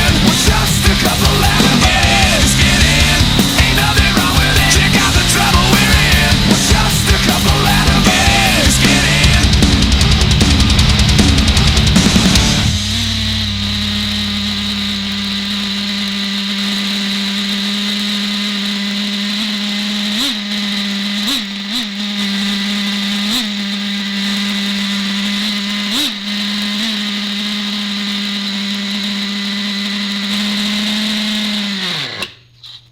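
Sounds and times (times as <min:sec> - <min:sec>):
small nitro engine idling high: 0:00.0 - 0:32.4.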